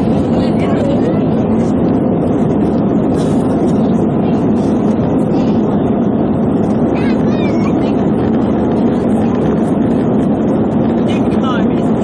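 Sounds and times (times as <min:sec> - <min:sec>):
jet engine roar in cabin: 0:00.0 - 0:12.0
murmur of voices: 0:00.0 - 0:12.0.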